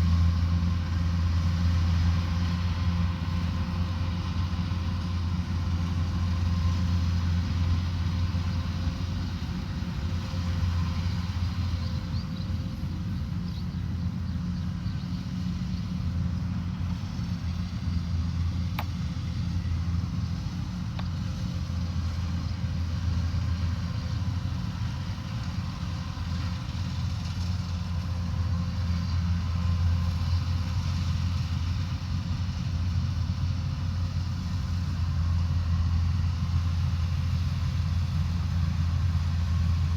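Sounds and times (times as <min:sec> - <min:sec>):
harvester engine droning: 0:00.0 - 0:39.9.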